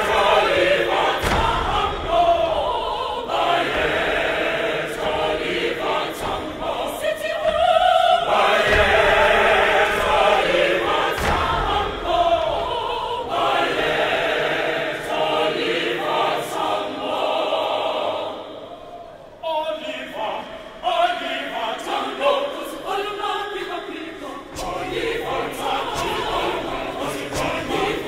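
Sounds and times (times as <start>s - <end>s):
mixed choir singing: 0.0s - 28.0s.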